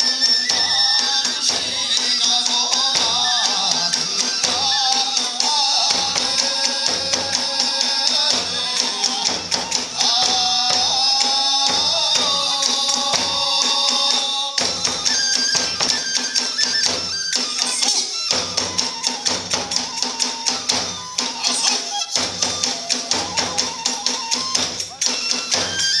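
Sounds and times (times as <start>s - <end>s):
big drum strokes: 0.0s - 21.6s
bamboo flute melody: 0.0s - 26.0s.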